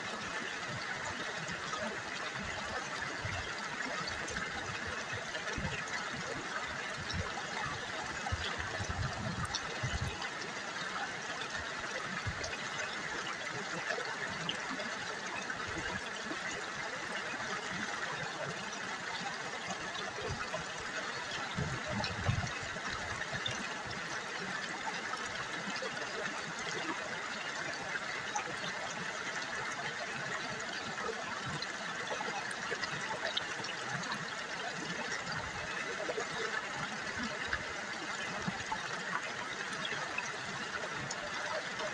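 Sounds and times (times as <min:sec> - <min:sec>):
river water babbling over stones: 0:00.0 - 0:41.9.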